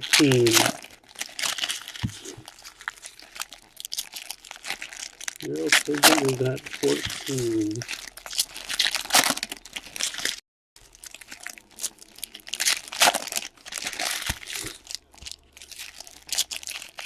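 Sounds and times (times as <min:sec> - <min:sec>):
plastic wrapping crinkling and tearing: 0:00.0 - 0:17.0.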